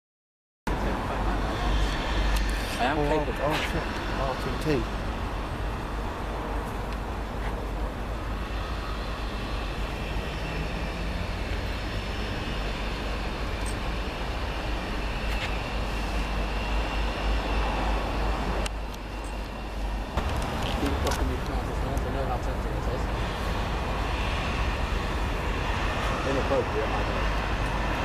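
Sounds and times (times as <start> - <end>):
train wheels rumbling on rail: 0.7 - 28.0.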